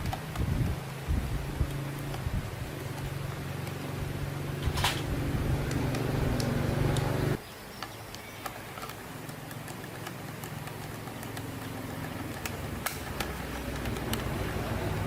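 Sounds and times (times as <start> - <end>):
steady motor: 0.0 - 7.4, 8.8 - 15.0.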